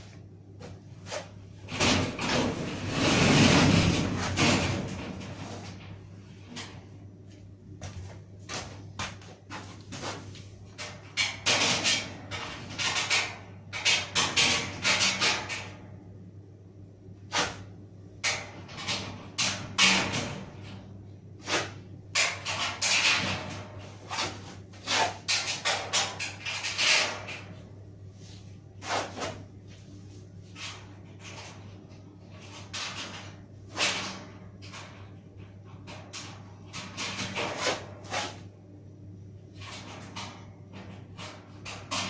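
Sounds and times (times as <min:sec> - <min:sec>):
steady low hum: 0:00.0 - 0:42.0
sheet-metal panels clattering: 0:00.6 - 0:07.0, 0:08.4 - 0:16.0, 0:17.3 - 0:27.8, 0:30.4 - 0:38.5, 0:39.5 - 0:42.0.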